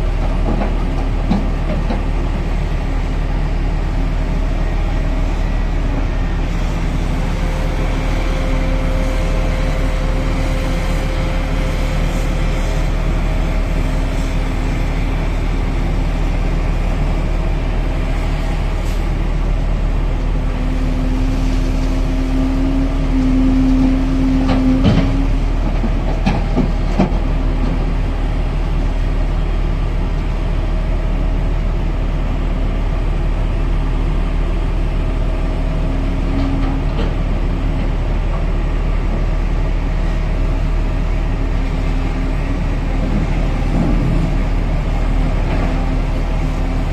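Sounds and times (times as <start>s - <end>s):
excavator engine and hydraulics: 0.0s - 46.9s.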